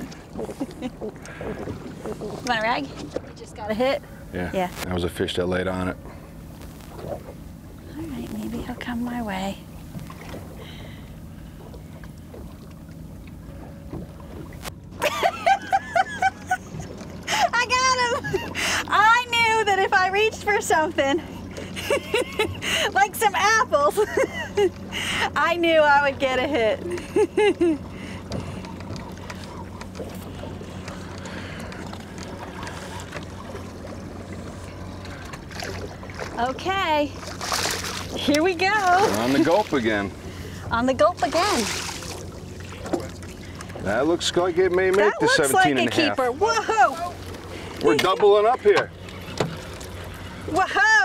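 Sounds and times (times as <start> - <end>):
water around a boat: 0.0 - 51.0
wind: 0.0 - 51.0.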